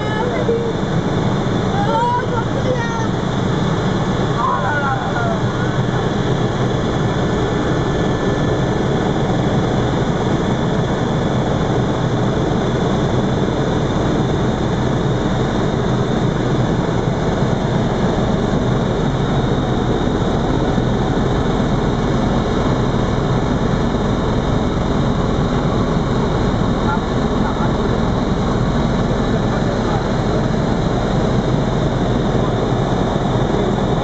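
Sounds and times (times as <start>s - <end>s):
helicopter engine and rotor drone: 0.0s - 34.0s.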